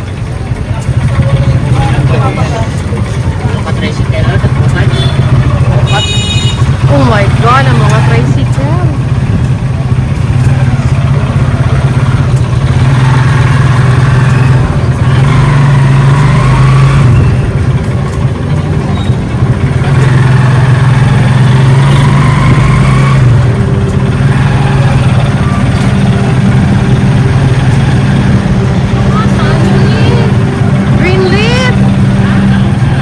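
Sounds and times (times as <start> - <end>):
vehicle engine droning: 0.0 - 33.0
vehicles passing: 0.0 - 33.0.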